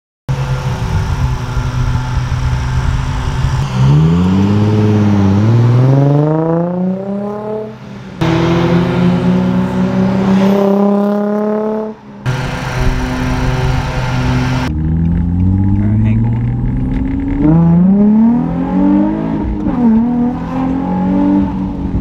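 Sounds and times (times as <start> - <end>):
car exhaust revving: 0.3 - 22.0.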